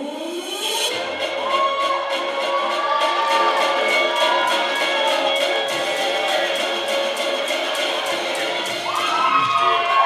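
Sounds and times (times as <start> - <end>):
dance music with steady beat: 0.0 - 10.0.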